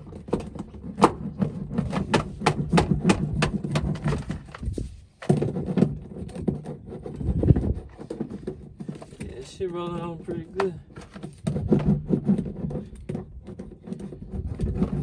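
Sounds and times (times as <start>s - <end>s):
roller clicking and crackling on mat: 0.0s - 15.0s.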